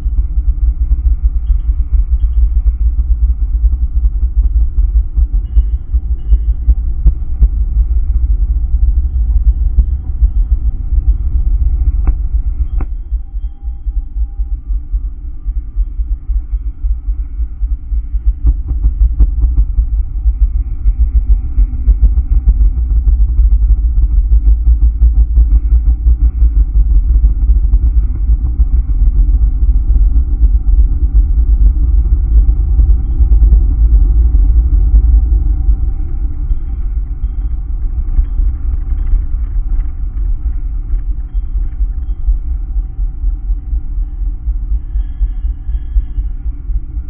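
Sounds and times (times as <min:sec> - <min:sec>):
pulsing bass music: 0:00.0 - 0:47.0.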